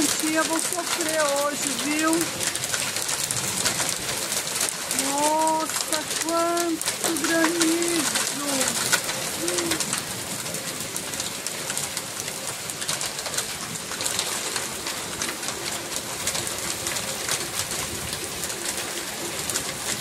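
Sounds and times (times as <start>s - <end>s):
hailstones striking: 0.0s - 20.0s
heavy rain hissing: 0.0s - 20.0s.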